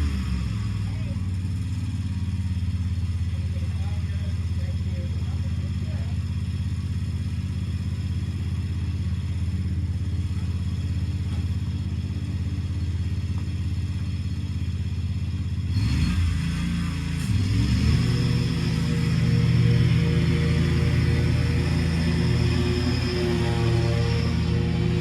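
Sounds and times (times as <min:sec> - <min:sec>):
lawnmower engine droning: 0:00.0 - 0:25.0.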